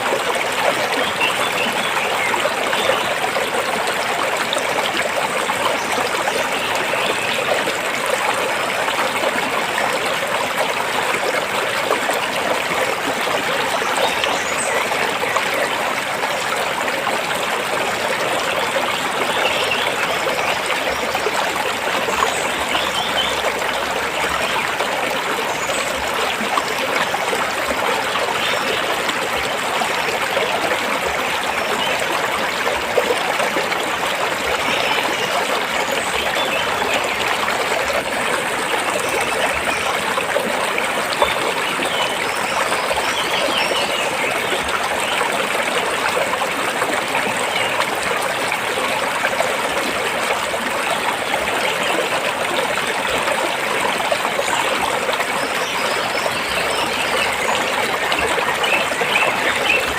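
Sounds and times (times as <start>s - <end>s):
stream water over rocks: 0.0s - 59.9s.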